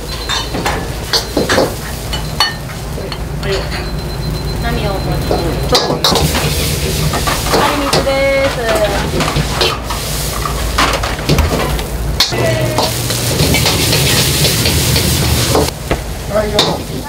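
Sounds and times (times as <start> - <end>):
rice sizzling in a wok: 0.0 - 17.0.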